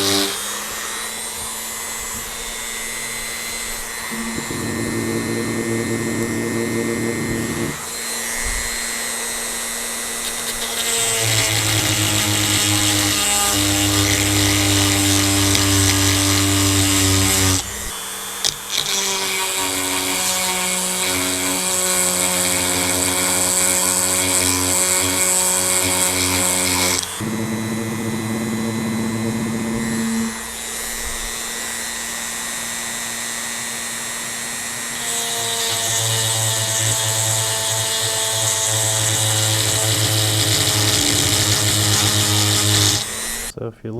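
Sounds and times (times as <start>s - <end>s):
rotary tool motor whine: 0.0s - 43.5s.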